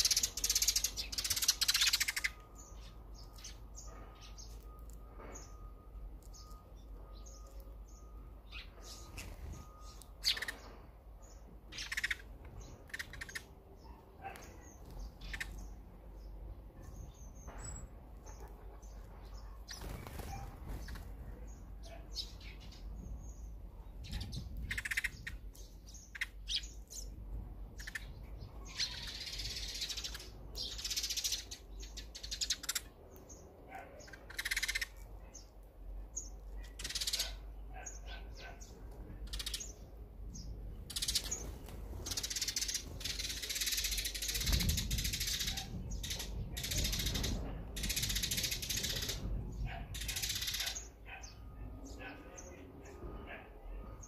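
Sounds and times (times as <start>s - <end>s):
sparrows chirping: 0.0s - 54.0s.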